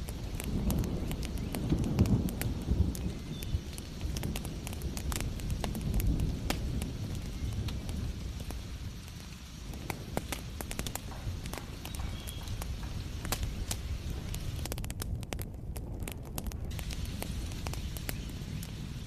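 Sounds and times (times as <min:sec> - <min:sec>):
fire low rumble and hiss: 0:00.0 - 0:19.0
wood fire crackling and popping: 0:00.0 - 0:19.0.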